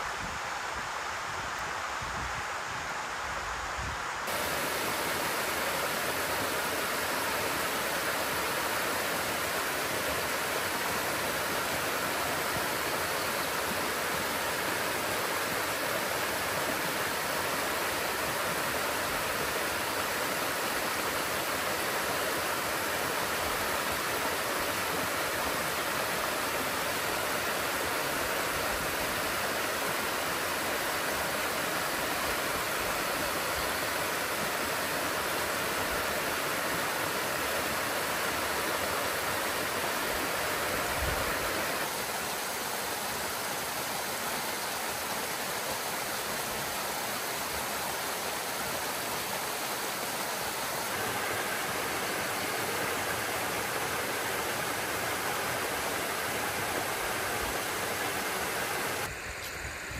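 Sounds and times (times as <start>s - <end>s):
stream cascading over rocks: 0.0s - 59.9s.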